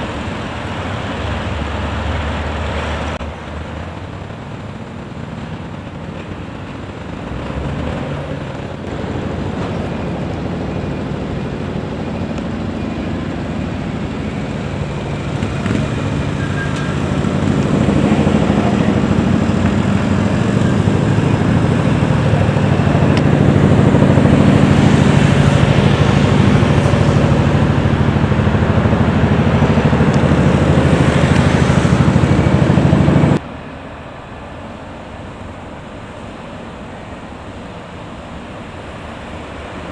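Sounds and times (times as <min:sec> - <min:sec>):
vehicle engine running: 0:00.0 - 0:33.5
road and wind noise: 0:00.0 - 0:39.9.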